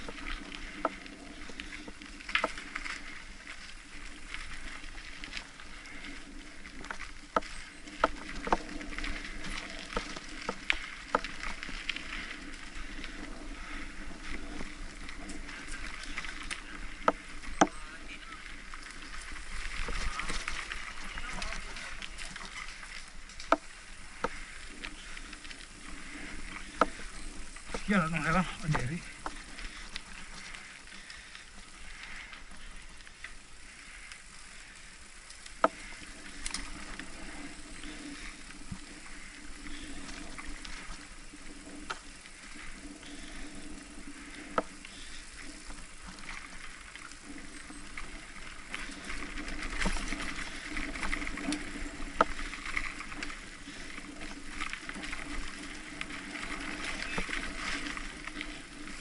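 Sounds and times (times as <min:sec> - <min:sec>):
bike tyres rolling on dirt: 0:00.0 - 0:59.0.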